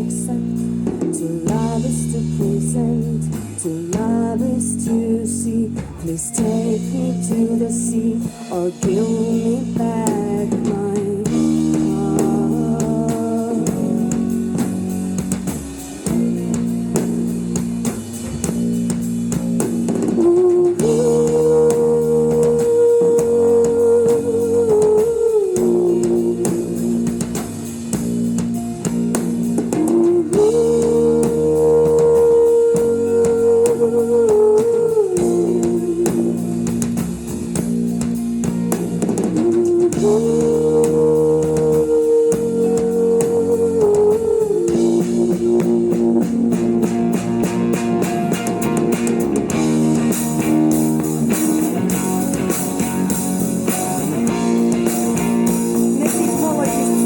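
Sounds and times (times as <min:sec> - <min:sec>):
rock band playing: 0:00.0 - 0:57.0
sustained lead guitar line: 0:00.0 - 0:57.0.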